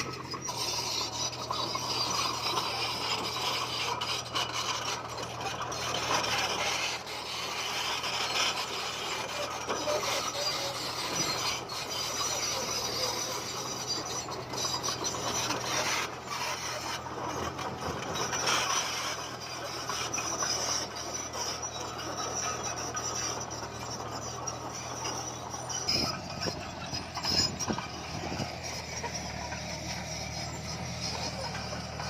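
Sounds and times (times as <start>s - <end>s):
blade and tracks scraping stone: 0.0s - 32.0s
bulldozer diesel engine running: 0.0s - 32.0s.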